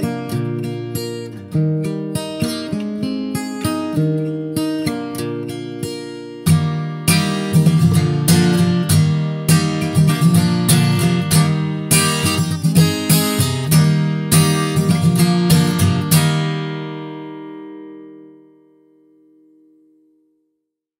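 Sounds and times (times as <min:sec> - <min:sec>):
plucked string folk tune: 0:00.0 - 0:19.9.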